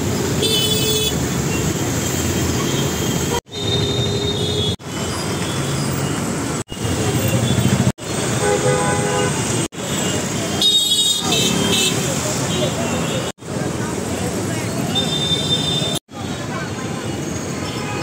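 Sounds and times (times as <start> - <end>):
busy street traffic: 0.0 - 18.0.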